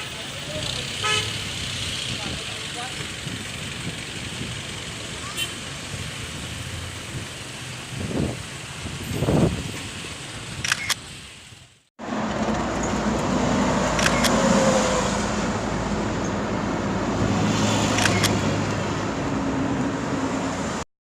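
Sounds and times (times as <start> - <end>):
vehicle engine hum: 0.0 - 20.8
road noise: 0.0 - 20.9.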